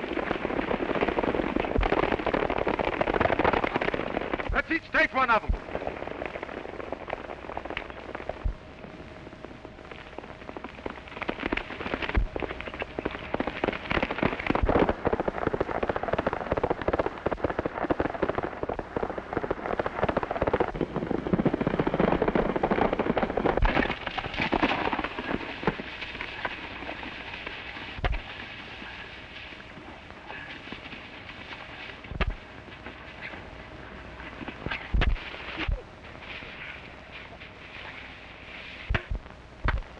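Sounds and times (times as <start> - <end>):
horses galloping: 0.0 - 39.9.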